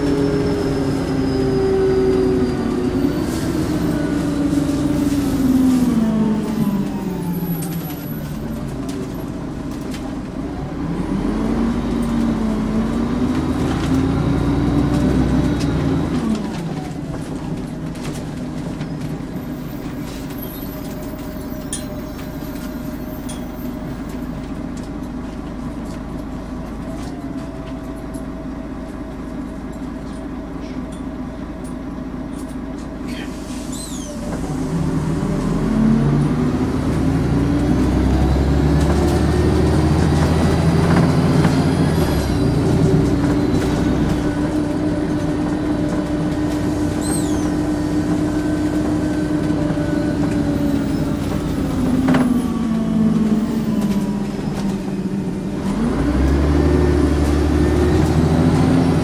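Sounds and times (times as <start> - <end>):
bus engine with turbo whistle: 0.0 - 59.0.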